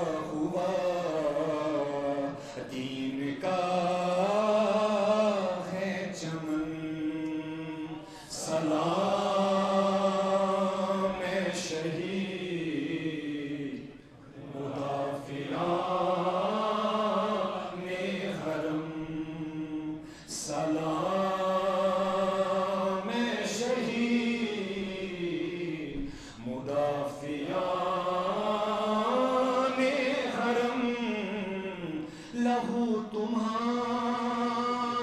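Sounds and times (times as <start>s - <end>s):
man chanting into microphone: 0.0s - 13.8s, 15.5s - 35.0s.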